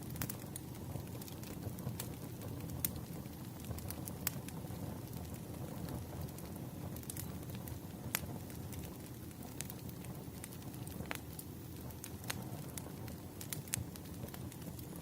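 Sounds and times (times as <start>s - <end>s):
low rumble of burning logs: 0.0s - 15.0s
wood fire crackling and popping: 0.0s - 15.0s.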